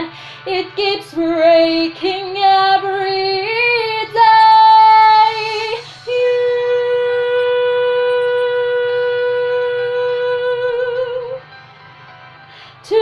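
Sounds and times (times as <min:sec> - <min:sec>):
woman singing a slow ballad: 0:00.0 - 0:11.5, 0:12.6 - 0:13.0.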